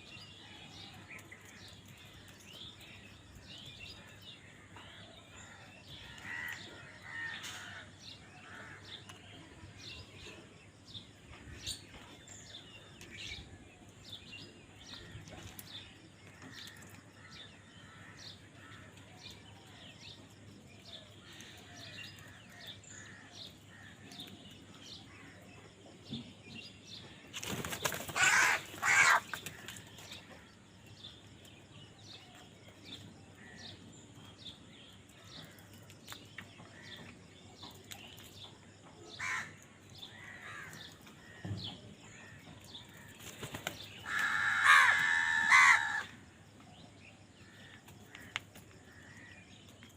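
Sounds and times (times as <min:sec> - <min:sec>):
birds chirping and calling: 0:00.0 - 0:49.9.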